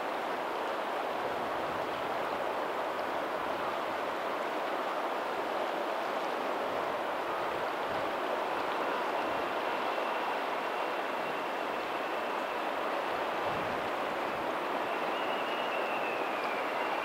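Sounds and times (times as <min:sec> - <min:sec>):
faint ocean surf: 0:00.0 - 0:17.0
water rushing: 0:00.0 - 0:17.0.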